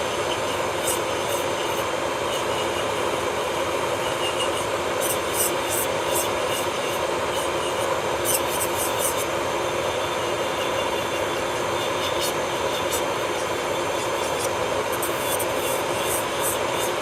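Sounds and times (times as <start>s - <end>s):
nail drill whirring: 0.0s - 17.0s.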